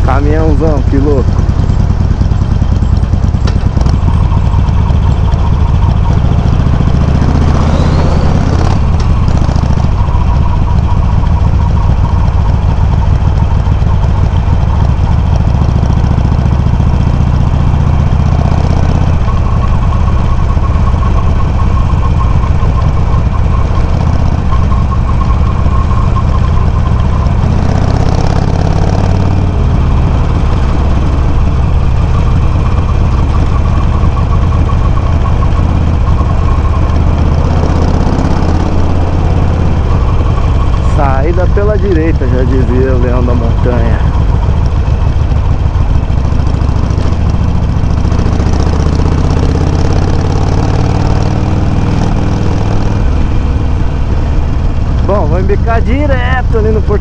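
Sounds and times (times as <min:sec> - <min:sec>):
motorcycle engine running loud: 0:00.0 - 0:57.0.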